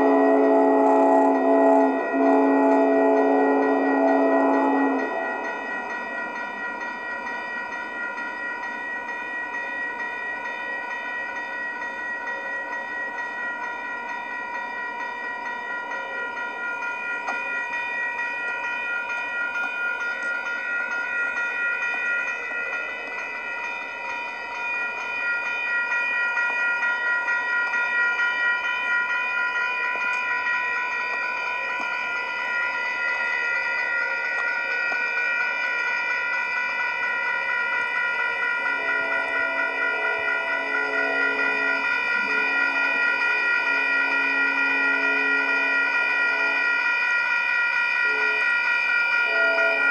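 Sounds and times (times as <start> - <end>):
railroad crossing bell ringing: 0.0 - 49.9.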